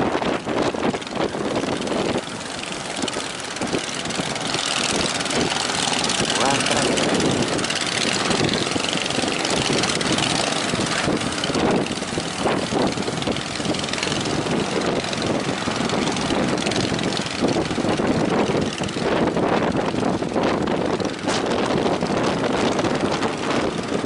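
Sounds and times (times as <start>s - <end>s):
sea waves breaking: 0.0s - 24.0s
wind rushing over microphone: 0.0s - 24.0s.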